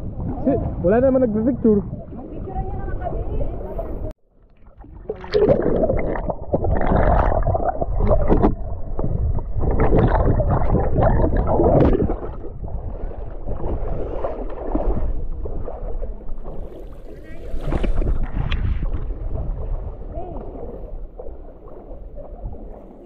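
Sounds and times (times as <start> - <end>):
wind rumble on microphone: 0.0 - 4.2, 4.8 - 23.0
water rushing around a boat: 0.0 - 23.0.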